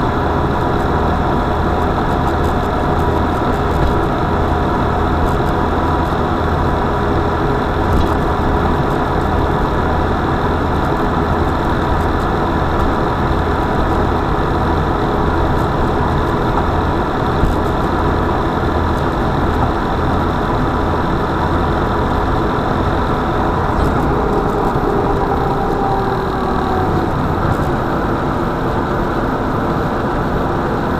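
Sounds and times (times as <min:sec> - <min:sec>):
vehicle engine humming: 0:00.0 - 0:30.9.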